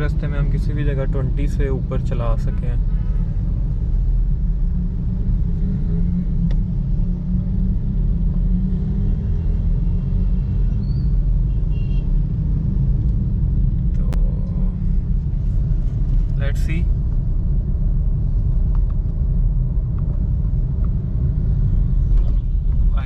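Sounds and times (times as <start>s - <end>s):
car engine and road noise inside: 0.0s - 23.0s.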